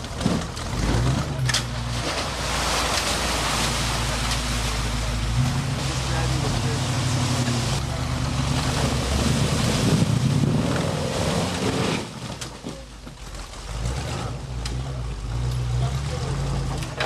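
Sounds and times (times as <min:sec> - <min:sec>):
truck engine working hard: 0:00.0 - 0:17.0.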